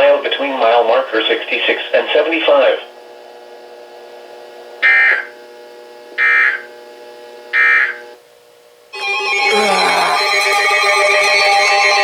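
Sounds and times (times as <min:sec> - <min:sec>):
background hum: 0:00.0 - 0:12.0.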